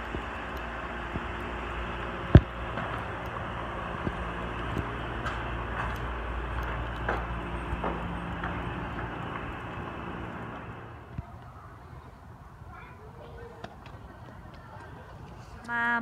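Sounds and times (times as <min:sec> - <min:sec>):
small wheels rolling over concrete: 0:00.0 - 0:12.2, 0:13.1 - 0:16.0.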